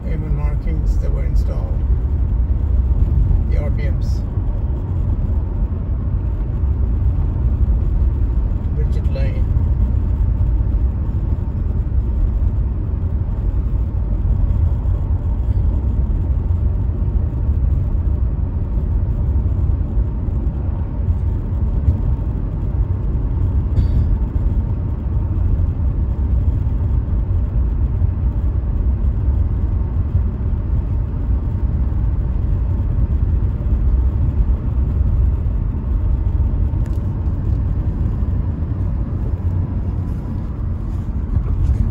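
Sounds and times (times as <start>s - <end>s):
car tyre and engine rumble: 0.0s - 41.9s.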